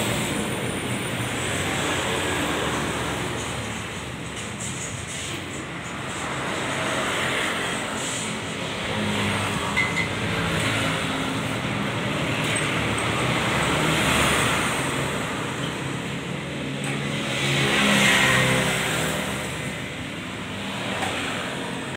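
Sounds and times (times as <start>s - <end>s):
traffic passing: 0.0s - 21.9s.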